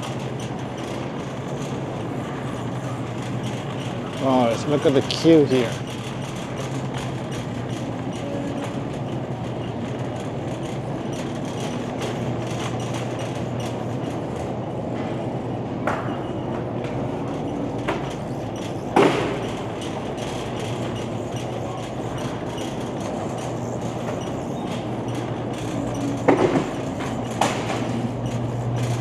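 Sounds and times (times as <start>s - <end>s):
shopping cart rattling: 0.0s - 14.8s, 17.2s - 29.0s
steady low hum: 0.0s - 29.0s.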